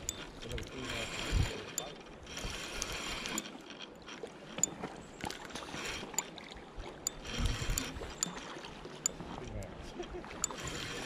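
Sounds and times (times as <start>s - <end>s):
fishing reel clicks: 0.0s - 9.2s, 10.4s - 11.0s
fishing reel gears whirring: 0.0s - 11.0s.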